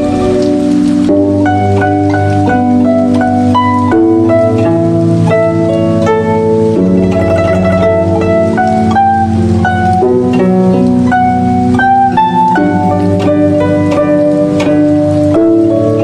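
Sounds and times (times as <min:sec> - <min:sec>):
guzheng melody: 0:00.0 - 0:16.0.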